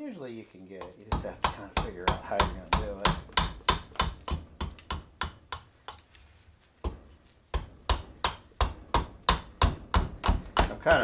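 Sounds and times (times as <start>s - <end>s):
hand axe chopping wood: 0.8s - 6.0s, 6.8s - 11.0s.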